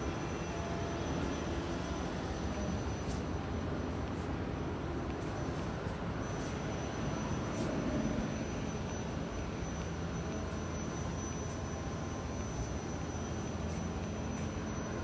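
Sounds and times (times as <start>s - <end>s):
factory machinery hum: 0.0s - 15.0s
high whine: 0.0s - 15.0s.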